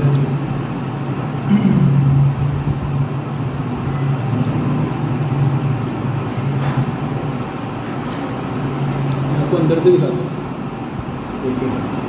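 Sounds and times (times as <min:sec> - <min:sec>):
low mechanical hum: 0:00.0 - 0:12.0
noisy background: 0:00.0 - 0:12.0.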